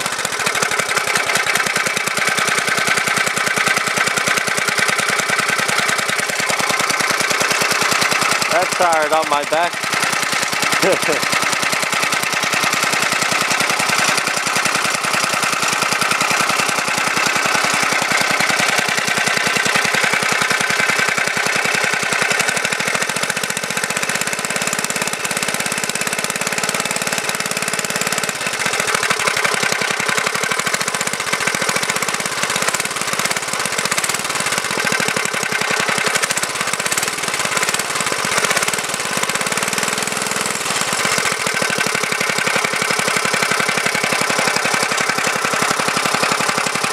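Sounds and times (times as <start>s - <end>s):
go-kart engine running: 0.0s - 46.9s.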